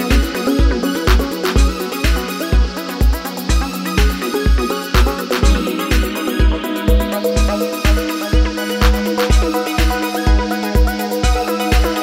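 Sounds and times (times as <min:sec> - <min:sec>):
background music with kick drum: 0:00.0 - 0:12.0.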